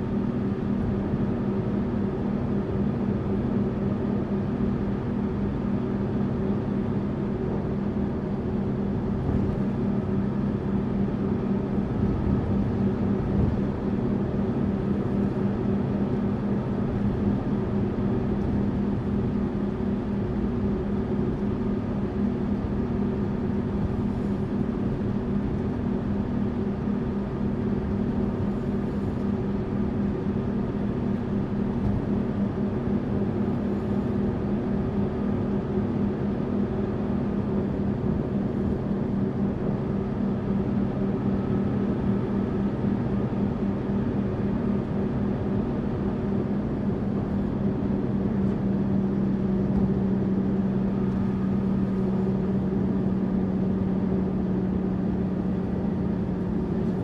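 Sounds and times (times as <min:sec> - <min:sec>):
coach engine droning hum: 0:00.0 - 0:57.0.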